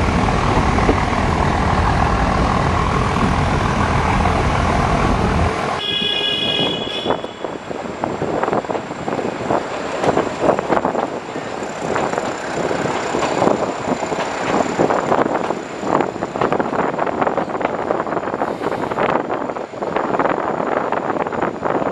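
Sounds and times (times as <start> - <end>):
wheels clacking on track: 0.0 - 5.8, 7.1 - 21.9
train rumbling: 0.0 - 21.9.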